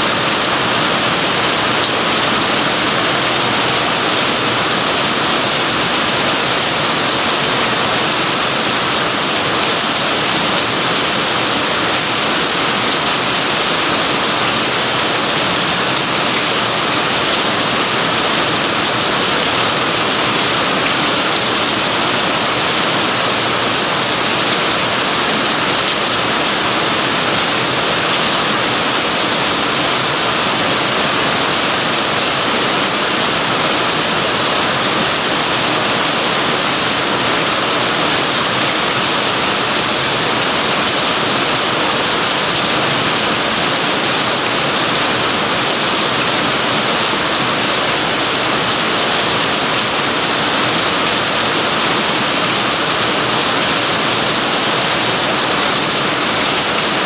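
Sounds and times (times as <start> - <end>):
heavy rain on foliage: 0.0 - 57.0
water streaming off roof: 0.0 - 57.0.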